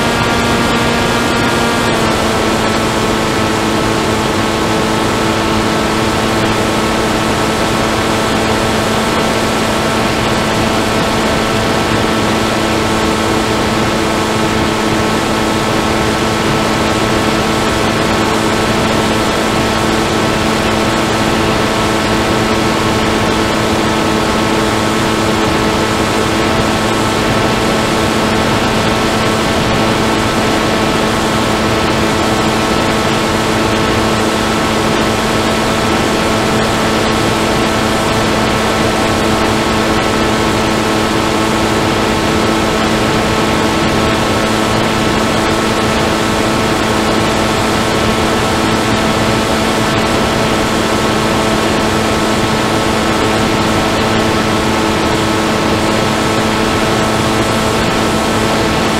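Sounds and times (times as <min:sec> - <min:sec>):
model aircraft motor and propeller: 0:00.0 - 0:58.9.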